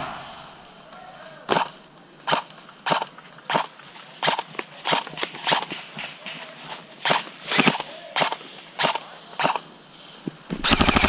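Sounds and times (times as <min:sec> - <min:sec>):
short sharp cracks: 0:00.0 - 0:09.8.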